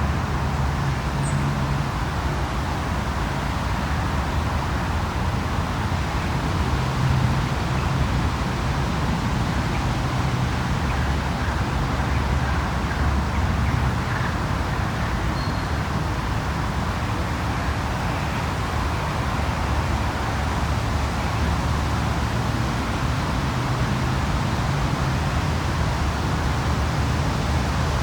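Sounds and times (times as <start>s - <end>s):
distant road traffic rumble: 0.0s - 28.0s.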